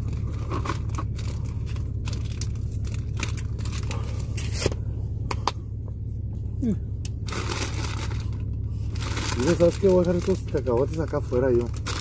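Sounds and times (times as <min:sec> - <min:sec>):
crinkling handling noises: 0:00.0 - 0:05.4, 0:06.0 - 0:12.0
diesel truck engine hum: 0:00.0 - 0:12.0.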